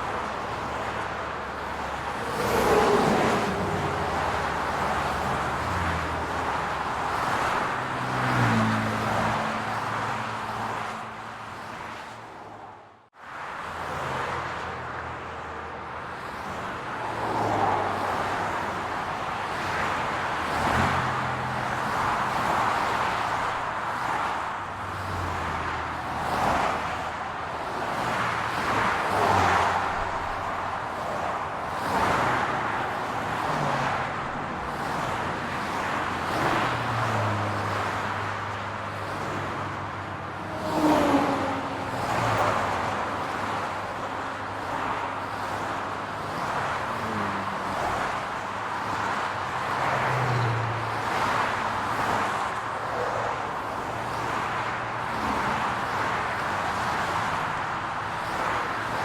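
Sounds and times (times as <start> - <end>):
cars passing: 0.0 - 59.0
road traffic hum: 0.0 - 59.0.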